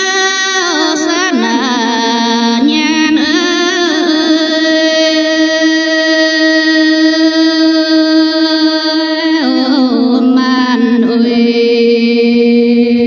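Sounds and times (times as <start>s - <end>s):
person singing long held notes: 0.0s - 13.0s.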